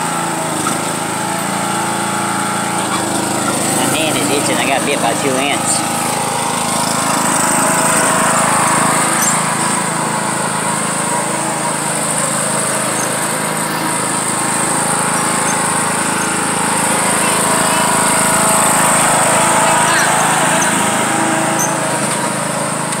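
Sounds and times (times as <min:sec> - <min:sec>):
lawn tractor engine running: 0:00.0 - 0:23.0.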